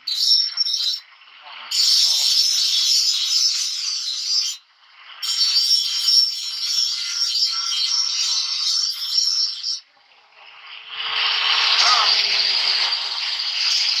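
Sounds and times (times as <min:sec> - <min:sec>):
angle grinder grinding metal: 0:00.1 - 0:01.1, 0:01.7 - 0:04.6, 0:05.2 - 0:09.8, 0:11.0 - 0:14.0.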